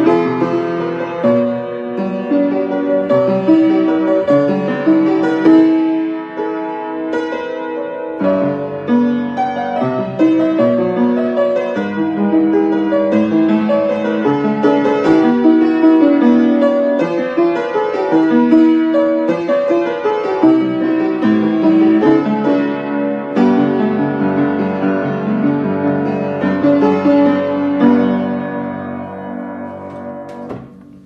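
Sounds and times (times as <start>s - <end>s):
upright piano piece: 0.0s - 31.0s.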